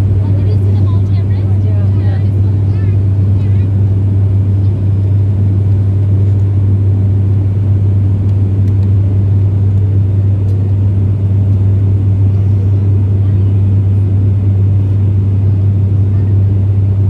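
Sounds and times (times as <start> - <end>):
propeller engine drone: 0.0 - 17.0.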